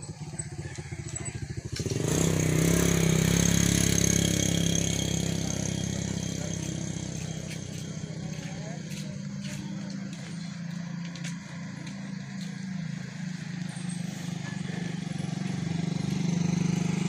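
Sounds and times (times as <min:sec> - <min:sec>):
motorcycle engine passing: 0:00.0 - 0:17.0.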